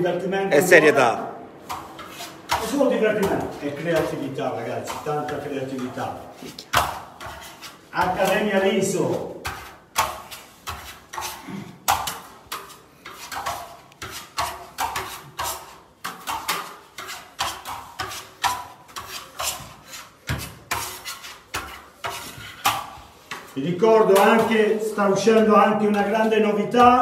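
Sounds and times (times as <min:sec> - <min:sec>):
steel spatulas scraping plaster: 0:01.6 - 0:26.9.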